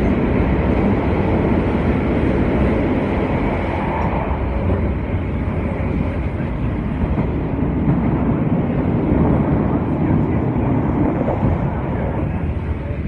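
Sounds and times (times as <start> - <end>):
train rumbling heard on board: 0.0 - 13.0.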